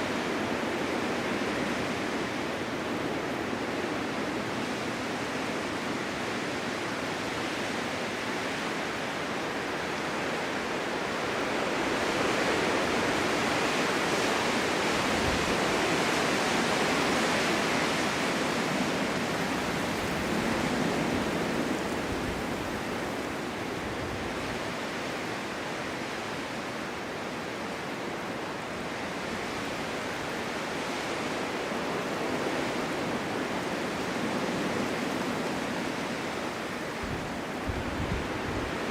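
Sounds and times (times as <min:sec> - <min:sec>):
snowstorm wind blowing: 0:00.0 - 0:38.9.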